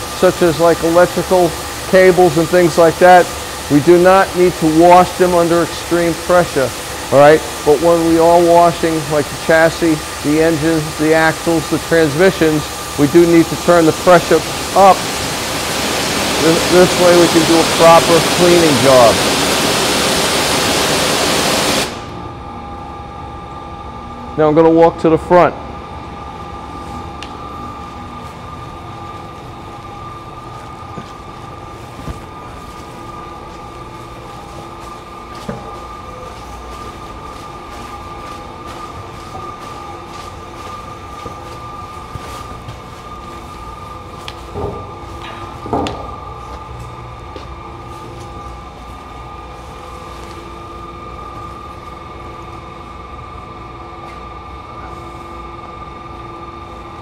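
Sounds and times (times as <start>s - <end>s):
machinery hum: 0.0s - 57.0s.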